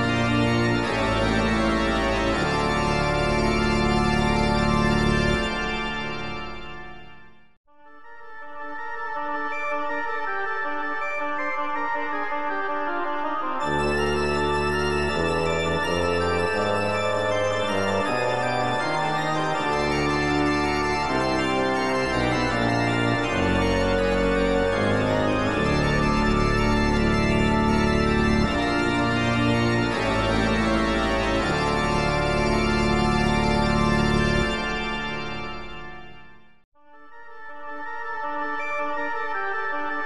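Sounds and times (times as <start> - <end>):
organ-like keyboard chords: 0.0 - 7.6, 8.6 - 36.6.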